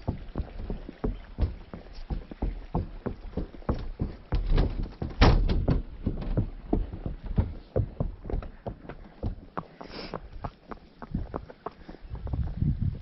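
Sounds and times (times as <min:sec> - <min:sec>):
hooves on wooden bridge: 0:00.0 - 0:13.0.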